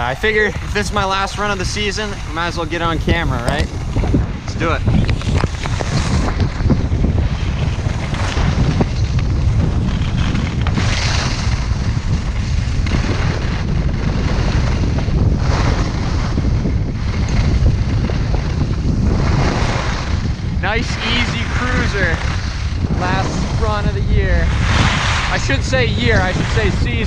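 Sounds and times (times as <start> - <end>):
wind buffeting microphone: 0.0 - 27.0
skis scraping on hard snow: 0.2 - 27.0.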